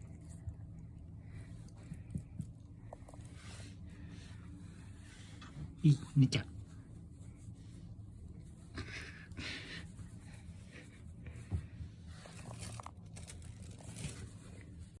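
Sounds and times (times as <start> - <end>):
soft rustling and handling: 0.0 - 15.0.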